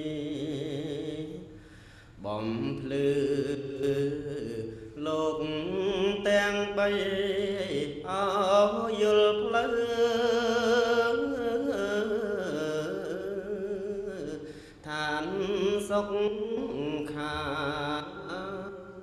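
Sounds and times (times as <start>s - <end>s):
person chanting: 0.0s - 1.6s, 2.2s - 19.0s.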